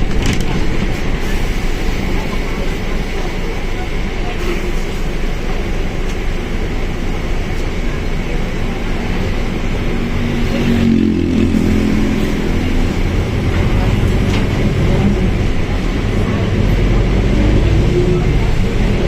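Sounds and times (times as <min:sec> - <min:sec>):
bus diesel engine rumbling: 0:00.0 - 0:19.0.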